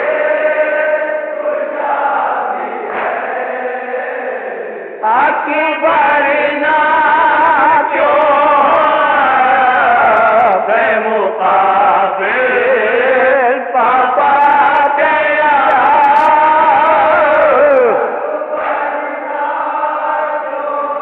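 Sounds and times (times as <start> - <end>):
person chanting a lament: 0.0 - 21.0.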